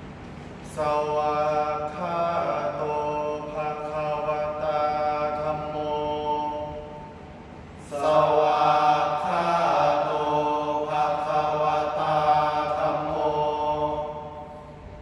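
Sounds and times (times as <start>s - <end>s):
young men chanting together: 0.7s - 7.2s, 7.8s - 14.7s.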